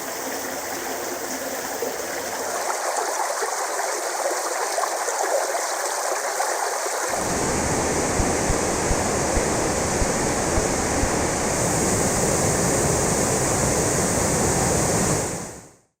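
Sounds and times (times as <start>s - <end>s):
stream water running: 0.0s - 15.6s.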